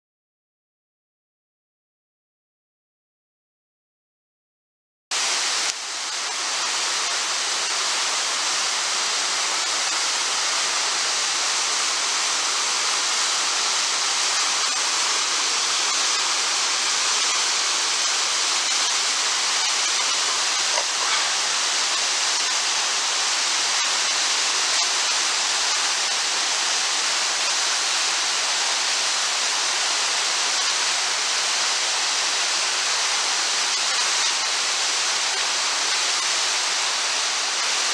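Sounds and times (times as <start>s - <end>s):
river rapids rushing over rocks: 5.2s - 37.9s.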